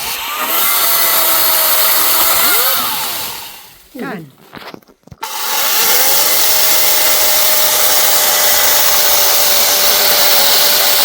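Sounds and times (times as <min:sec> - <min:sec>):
chainsaw running: 0:00.0 - 0:03.9, 0:05.2 - 0:11.0.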